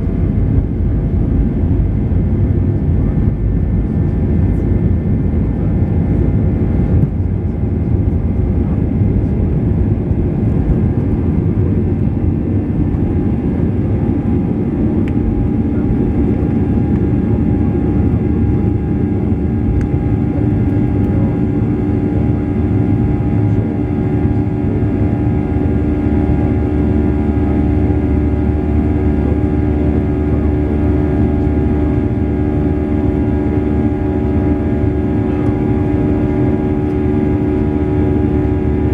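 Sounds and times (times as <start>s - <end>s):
jet engine roar in cabin: 0.0s - 38.9s.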